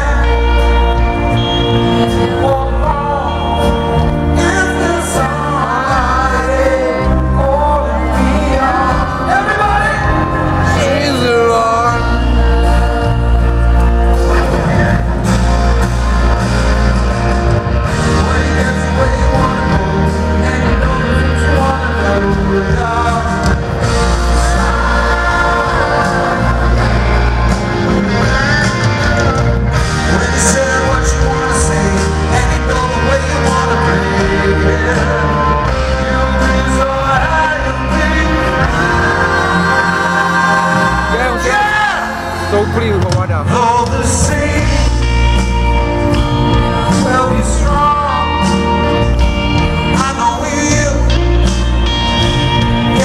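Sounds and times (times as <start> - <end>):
man singing: 0.0 - 15.8, 17.6 - 53.0
live rock band playing: 0.0 - 53.0.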